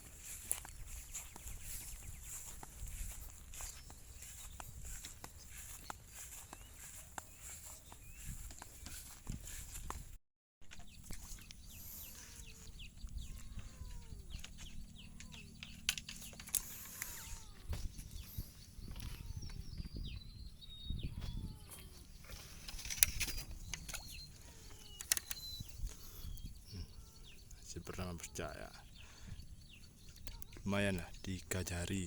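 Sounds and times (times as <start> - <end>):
short falling bird calls: 0.0 - 9.8, 10.7 - 30.6.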